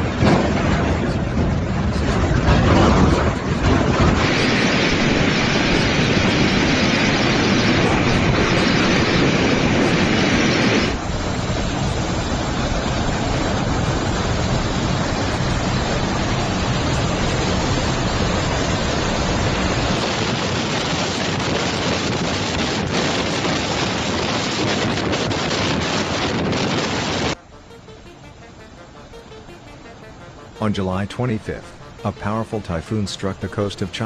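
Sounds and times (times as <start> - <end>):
strong wind and driving rain: 0.0 - 27.4.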